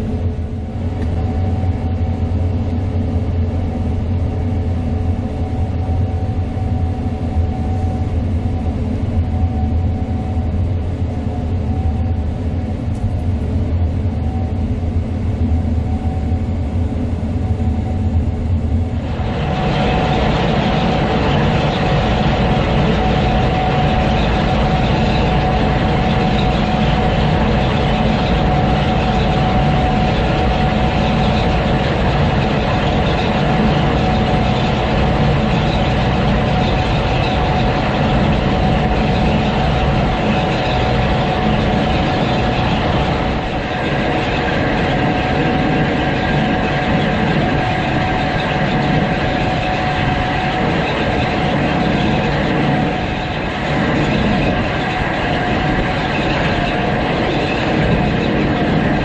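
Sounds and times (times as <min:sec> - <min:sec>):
combine engine and machinery drone: 0:00.0 - 0:59.0
steady high whine: 0:00.0 - 0:59.0.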